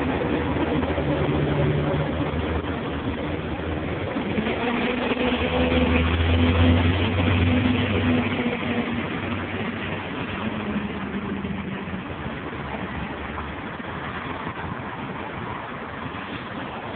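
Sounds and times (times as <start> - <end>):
street traffic: 0.0 - 16.9.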